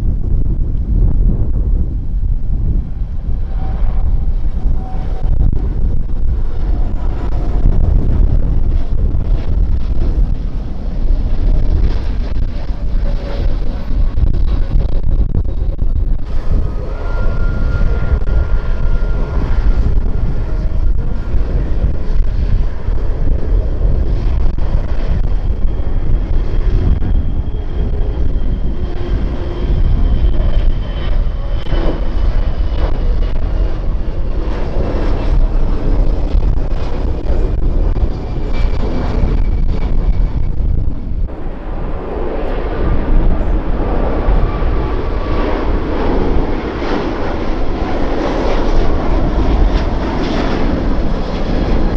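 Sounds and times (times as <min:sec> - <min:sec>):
jet airliner passing: 0:00.0 - 0:51.9.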